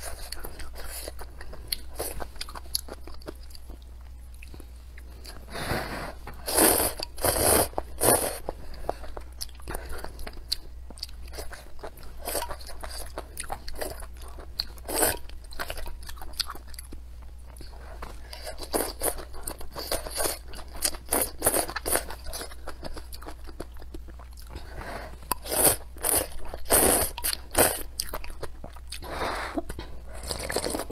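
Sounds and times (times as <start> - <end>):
wet chewing and crunching: 0.0 - 5.4, 6.8 - 30.9.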